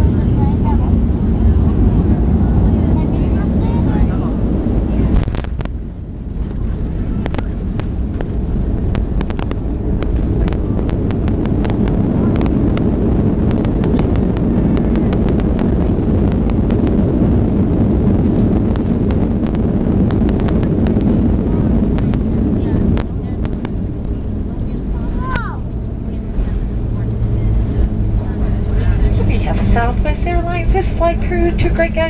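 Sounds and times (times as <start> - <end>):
engine and wheel roar: 0.0 - 32.0.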